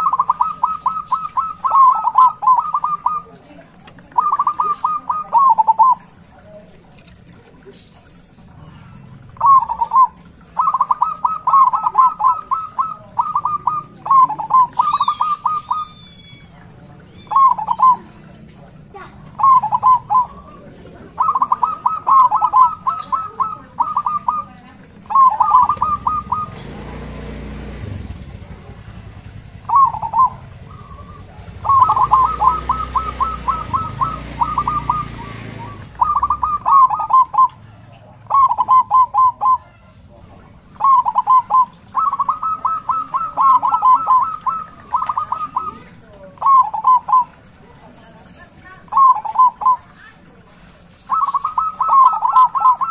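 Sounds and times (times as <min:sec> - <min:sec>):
dove cooing: 0:00.0 - 0:52.9
small bird chirping: 0:00.0 - 0:52.9.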